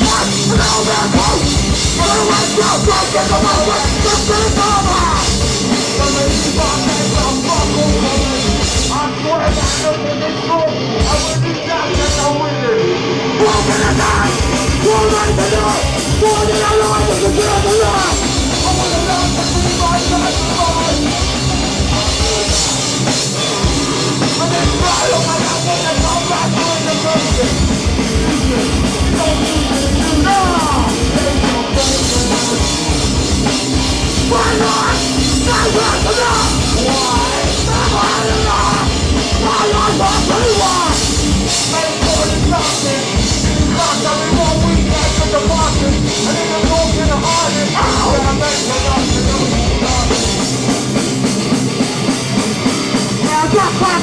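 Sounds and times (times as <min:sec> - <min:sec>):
distorted guitars: 0:00.0 - 0:54.0
drums: 0:00.0 - 0:54.0
yelled vocals: 0:00.0 - 0:54.0.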